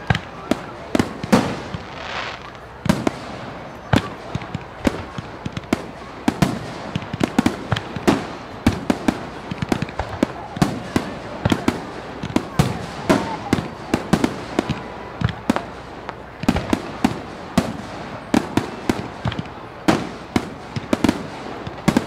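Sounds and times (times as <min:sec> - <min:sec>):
hissing crackle: 0:00.0 - 0:22.0.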